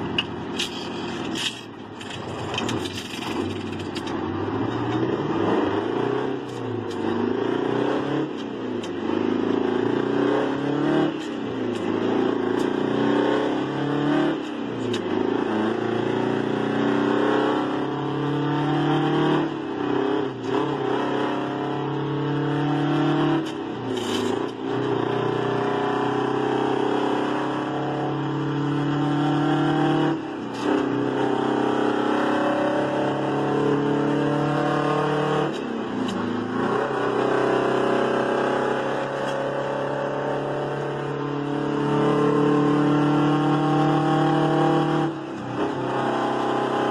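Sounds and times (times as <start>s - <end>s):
diesel truck accelerating through gears: 0.0s - 46.9s.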